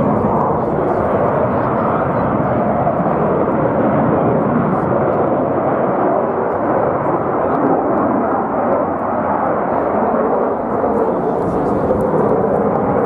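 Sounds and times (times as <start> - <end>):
aircraft engine noise: 0.0 - 13.0.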